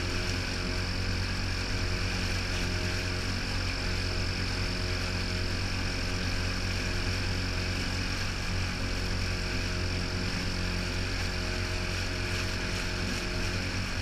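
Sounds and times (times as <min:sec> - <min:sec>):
outboard motor droning: 0:00.0 - 0:14.0
water rushing: 0:00.0 - 0:14.0.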